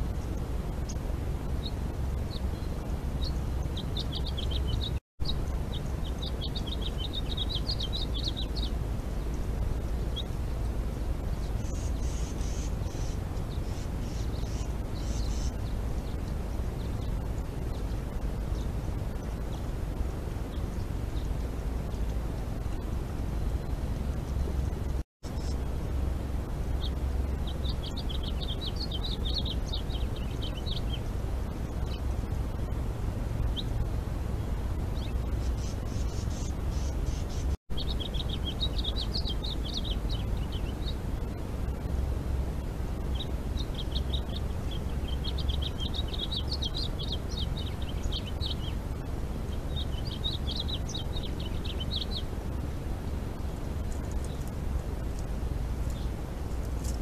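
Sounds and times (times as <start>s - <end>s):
small bird chirping: 0.0s - 19.7s, 20.4s - 25.7s, 26.7s - 32.8s, 34.8s - 42.0s, 43.0s - 57.0s
low background rumble: 0.0s - 57.0s.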